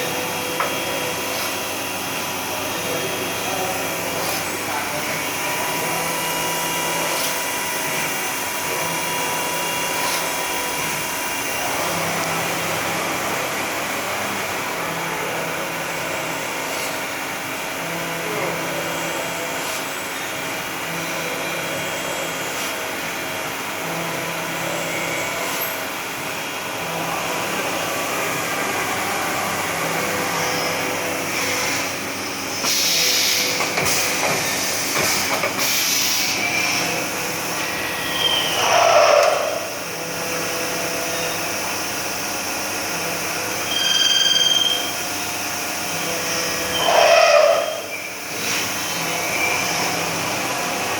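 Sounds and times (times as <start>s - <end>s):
machine whine and hiss: 0.0s - 50.9s.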